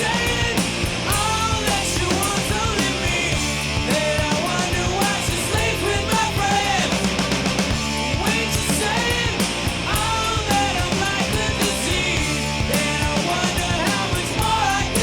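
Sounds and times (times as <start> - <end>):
distorted rock guitars: 0.0 - 15.0
drum beat: 0.0 - 15.0.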